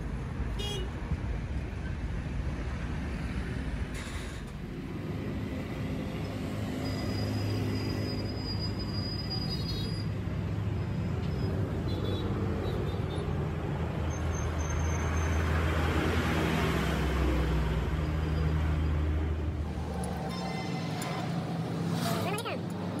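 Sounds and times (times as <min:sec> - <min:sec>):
road traffic engine hum: 0:00.0 - 0:23.0.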